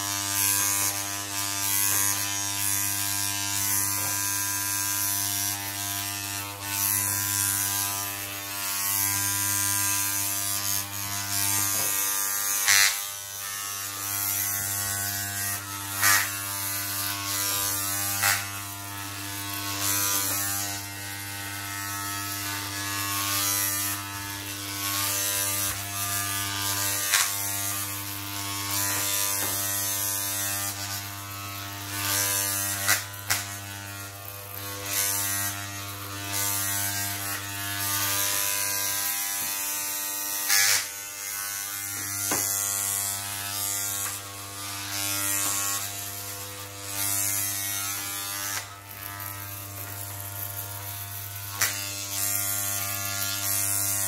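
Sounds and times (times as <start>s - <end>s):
clippers hissing through hair: 0.0s - 54.0s
electric hair clippers buzzing: 0.0s - 54.0s.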